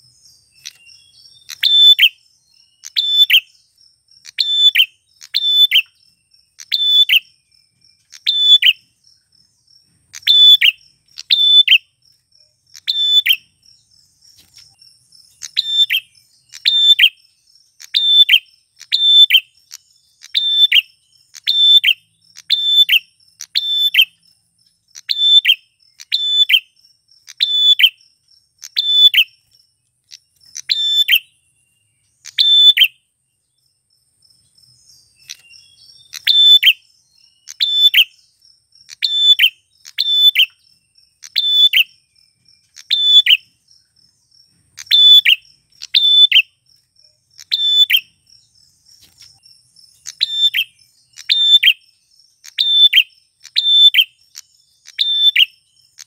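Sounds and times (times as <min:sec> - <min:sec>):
faint high insect tone: 0:00.0 - 0:56.0.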